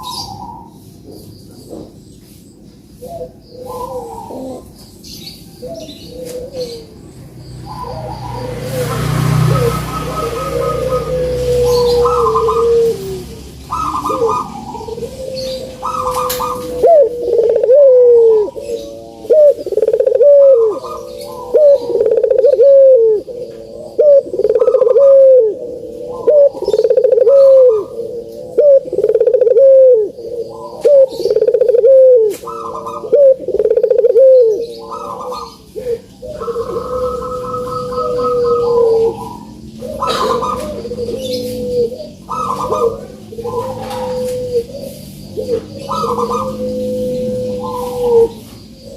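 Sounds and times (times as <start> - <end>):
dove cooing: 0.0 - 0.8, 3.0 - 48.9.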